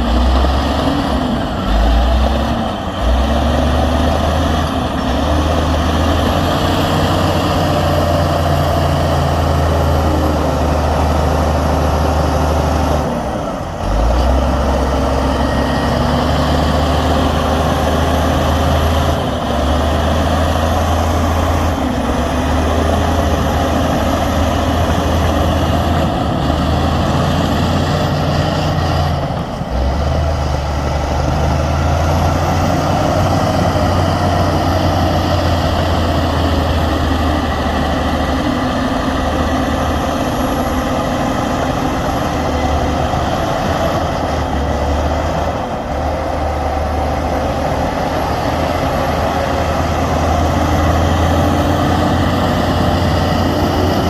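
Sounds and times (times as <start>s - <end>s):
heavy diesel engine drone: 0.0s - 54.0s.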